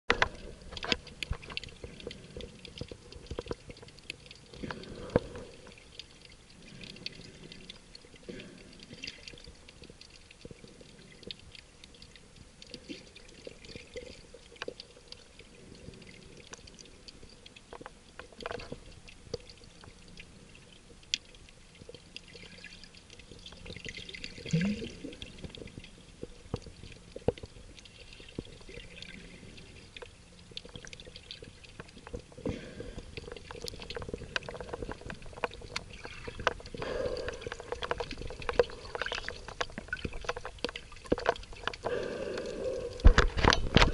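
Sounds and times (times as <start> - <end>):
underwater clicks and crackles: 0.1 - 43.9
underwater water wash: 0.1 - 43.9.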